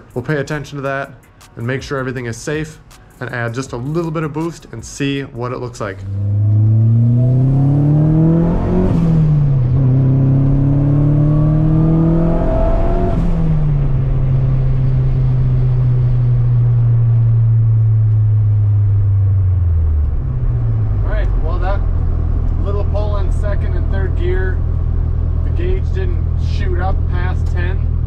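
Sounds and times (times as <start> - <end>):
car engine accelerating: 3.8 - 28.0.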